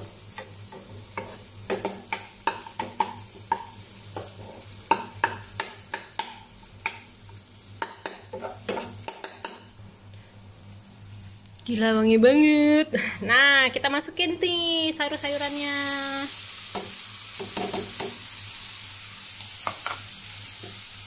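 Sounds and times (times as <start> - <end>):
food sizzling in oil: 0.0 - 12.8, 14.8 - 21.0.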